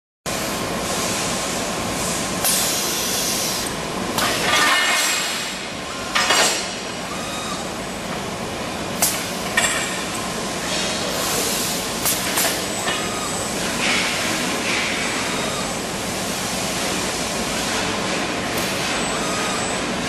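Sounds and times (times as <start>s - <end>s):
machine hum and hiss: 0.3s - 20.0s.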